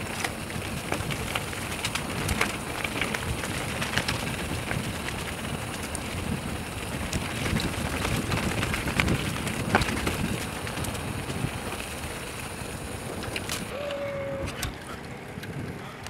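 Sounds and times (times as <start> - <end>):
bike rolling on smooth pavement: 0.0 - 16.0
bike tyres on rough trail: 0.0 - 16.0
wind on microphone: 0.0 - 16.0.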